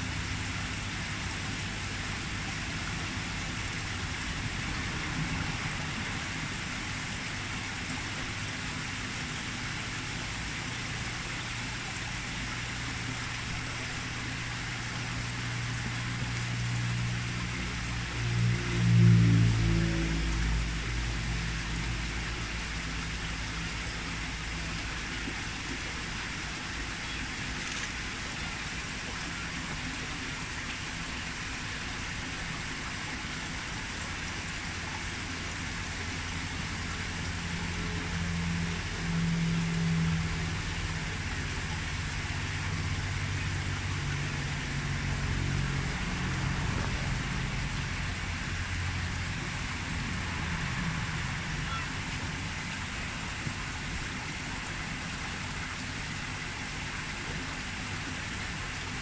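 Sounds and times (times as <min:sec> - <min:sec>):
low droning hum: 0:00.0 - 0:59.0
steady background hiss: 0:00.0 - 0:59.0.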